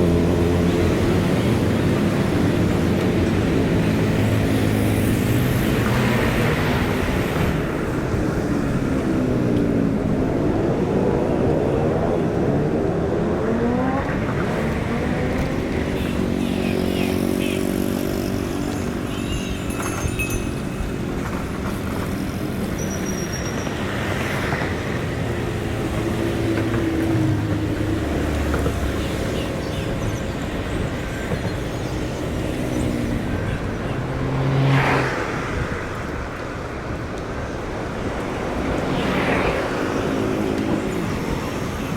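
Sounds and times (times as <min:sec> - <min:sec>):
steady traffic noise: 0:00.0 - 0:41.9
vehicles driving past: 0:00.0 - 0:41.9.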